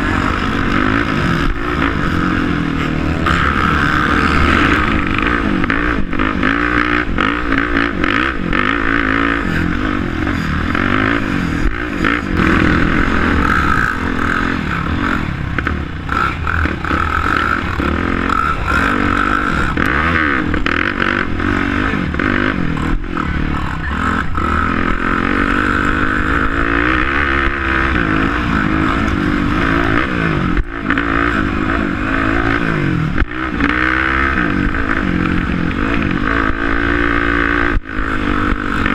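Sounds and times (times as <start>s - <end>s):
quad bike engines racing: 0.0s - 38.9s.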